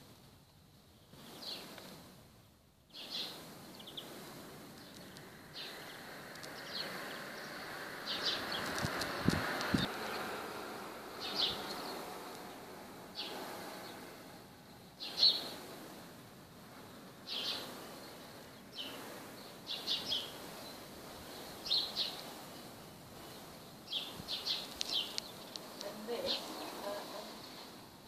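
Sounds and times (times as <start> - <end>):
faint outdoor background hiss: 0.0 - 28.0
small birds chirping: 0.4 - 28.0.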